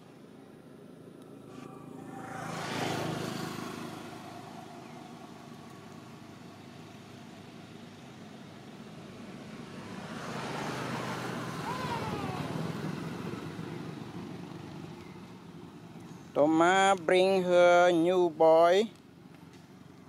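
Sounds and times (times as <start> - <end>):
vehicle passing by: 1.2 - 18.1.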